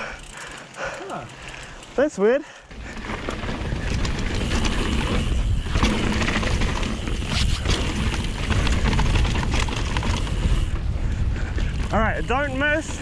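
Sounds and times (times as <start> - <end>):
bike rattling over bumps: 0.0 - 13.0
wind and tyre rumble: 0.0 - 13.0.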